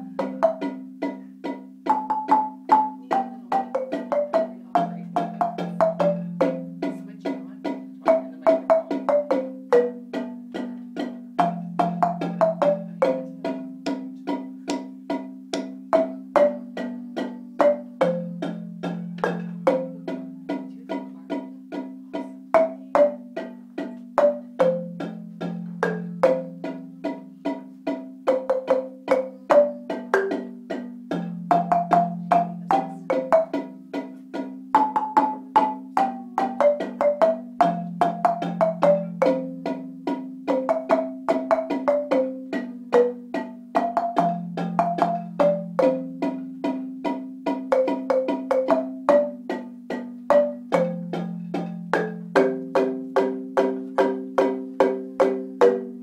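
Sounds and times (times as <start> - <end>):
marimba melody: 0.0 - 56.0.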